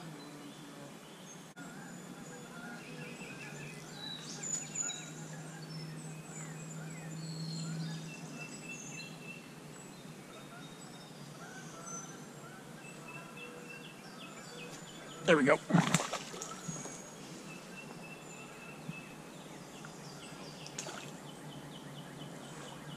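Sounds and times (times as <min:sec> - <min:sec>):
songbirds chirping and whistling: 0:00.0 - 0:22.9.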